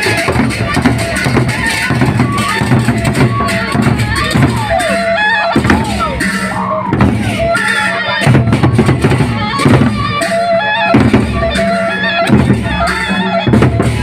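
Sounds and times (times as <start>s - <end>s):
big drums beating: 0.0s - 14.0s.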